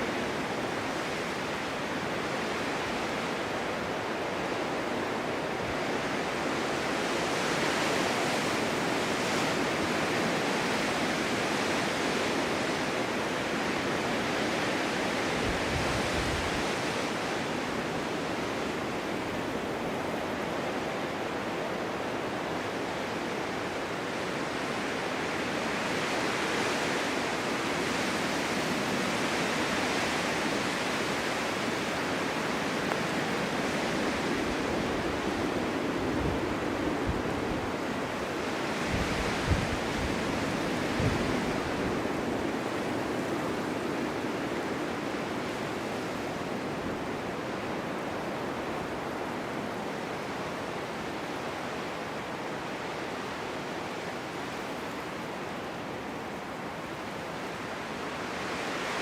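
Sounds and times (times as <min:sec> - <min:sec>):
snowstorm wind hissing: 0:00.0 - 0:59.0.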